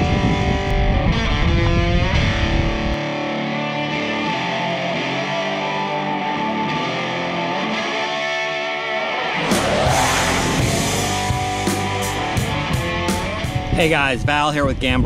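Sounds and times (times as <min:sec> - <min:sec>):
rock music with distorted guitar: 0:00.0 - 0:14.3.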